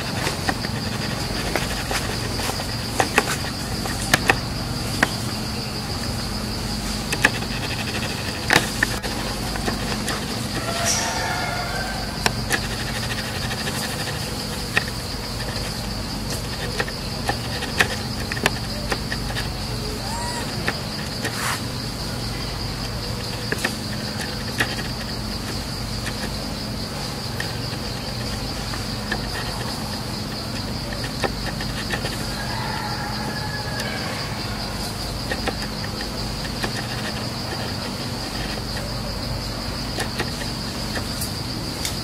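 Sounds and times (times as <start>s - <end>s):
sharp clicks: 0.0s - 34.0s, 34.6s - 42.0s
insects droning: 0.0s - 42.0s.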